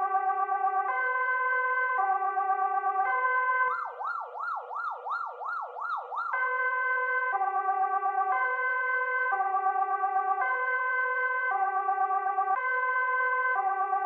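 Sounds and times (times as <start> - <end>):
police car siren: 0.0 - 14.0.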